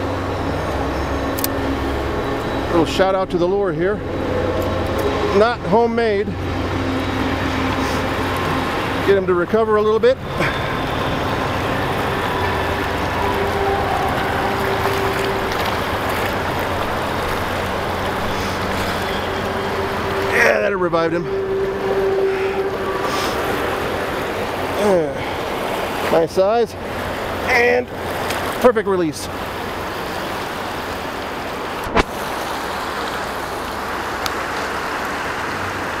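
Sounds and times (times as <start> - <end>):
stream water rushing around rocks: 0.0 - 36.0.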